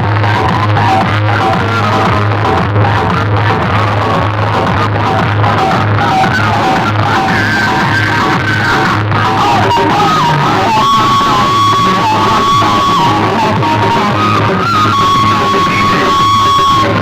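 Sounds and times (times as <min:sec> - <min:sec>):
electronic music over loudspeakers: 0:00.0 - 0:17.0.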